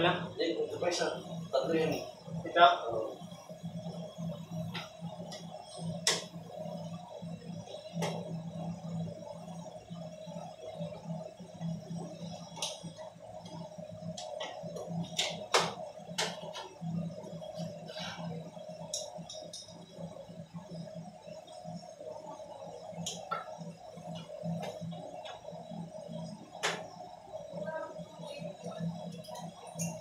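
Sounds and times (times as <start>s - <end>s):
faint music: 0.0s - 30.0s
steady background hum: 0.0s - 30.0s.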